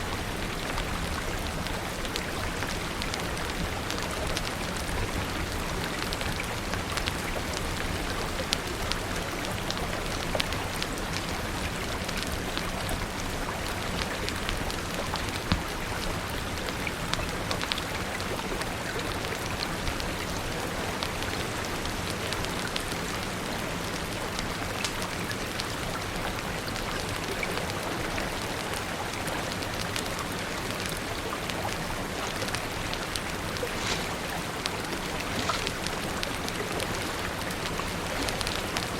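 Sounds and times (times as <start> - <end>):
rain pouring: 0.0 - 38.9
wood fire crackling: 0.1 - 38.9.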